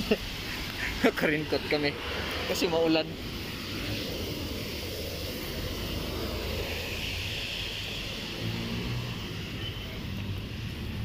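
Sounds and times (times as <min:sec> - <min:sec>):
tyres hissing on wet road: 0:00.0 - 0:11.0.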